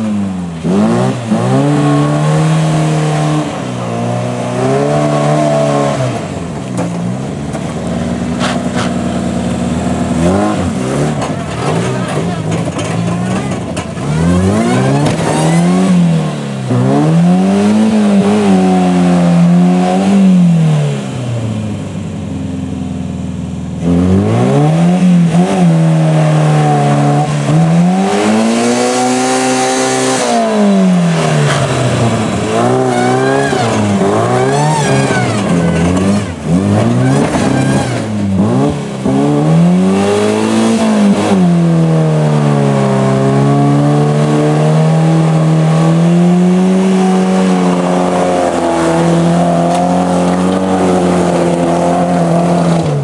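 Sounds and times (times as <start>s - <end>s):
car engine revving hard: 0.0s - 21.7s, 23.7s - 53.0s.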